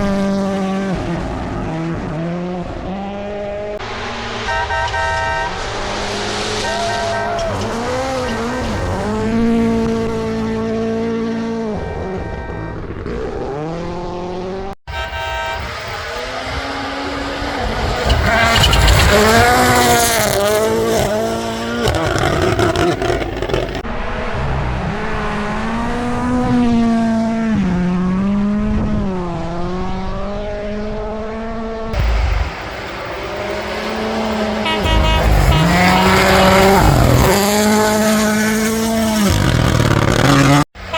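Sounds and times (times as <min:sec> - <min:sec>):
rally car engines at high revs: 0:00.0 - 0:40.9.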